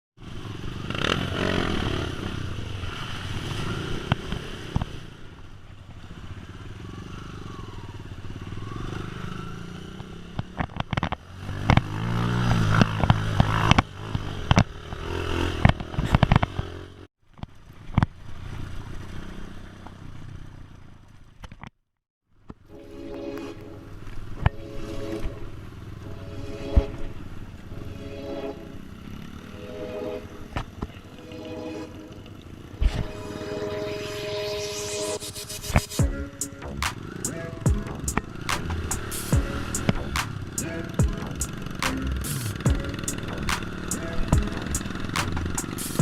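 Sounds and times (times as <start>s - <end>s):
motorcycle engines revving: 0.2s - 21.3s, 23.7s - 46.0s.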